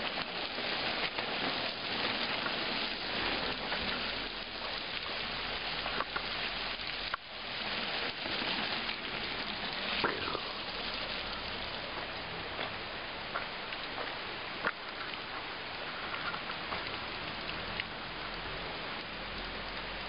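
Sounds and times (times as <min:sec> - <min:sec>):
waterfall splashing onto road: 0:00.0 - 0:20.0.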